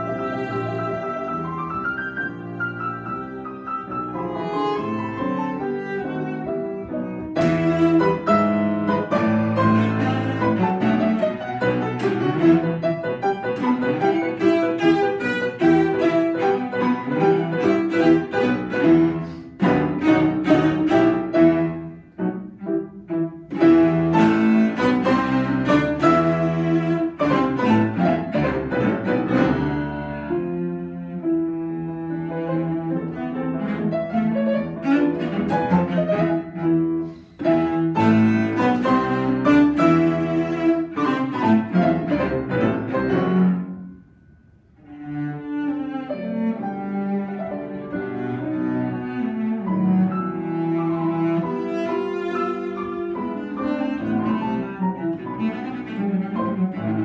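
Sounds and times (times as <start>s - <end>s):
bowed cello: 0.0s - 57.0s
grand piano playing: 0.0s - 57.0s.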